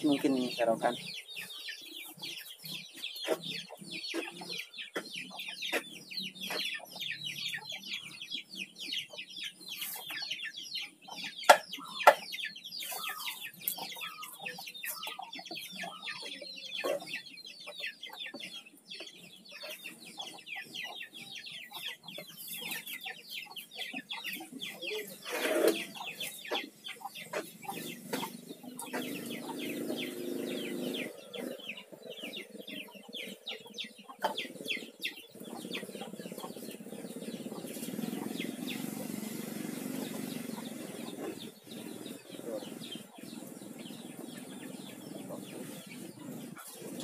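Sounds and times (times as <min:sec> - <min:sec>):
chickens clucking: 0:00.0 - 0:47.0
chicks peeping: 0:00.0 - 0:47.0.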